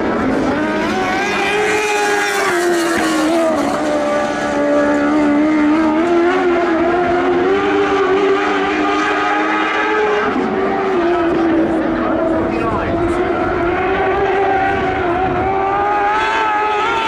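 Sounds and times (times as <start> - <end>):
race car engine at speed: 0.0 - 17.0.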